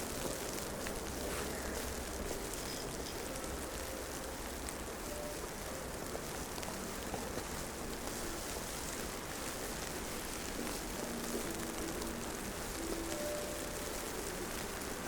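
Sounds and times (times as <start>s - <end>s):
snowfall hiss: 0.0s - 15.0s.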